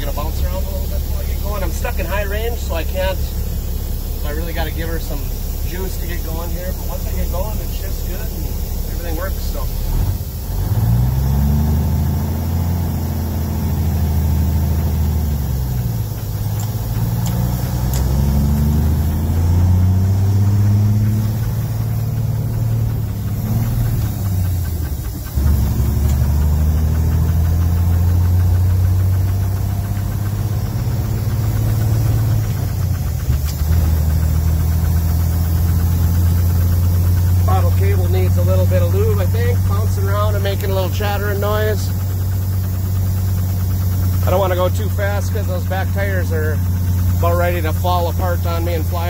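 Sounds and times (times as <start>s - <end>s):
truck diesel engine accelerating: 0.0s - 49.0s.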